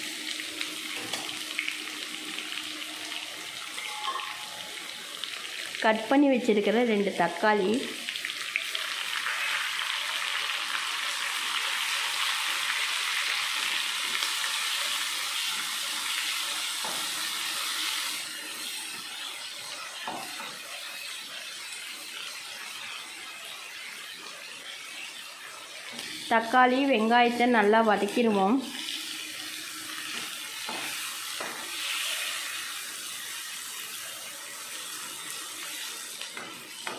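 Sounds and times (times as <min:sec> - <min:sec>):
vegetables sizzling in oil: 0:00.0 - 0:36.9.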